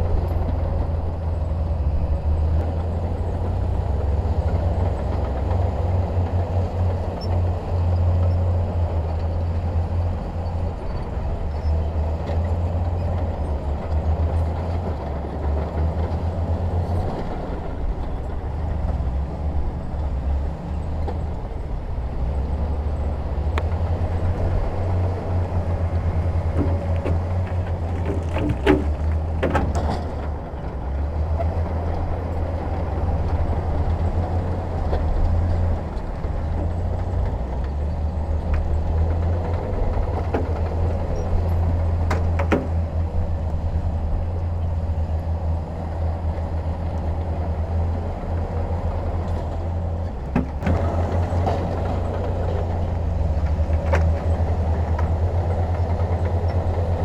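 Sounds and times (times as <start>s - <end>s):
diesel machinery engine rumble: 0.0s - 57.0s.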